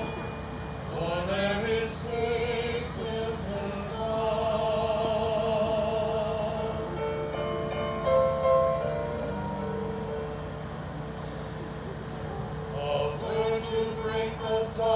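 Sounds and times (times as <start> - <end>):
choir singing held notes: 0.0 - 14.9.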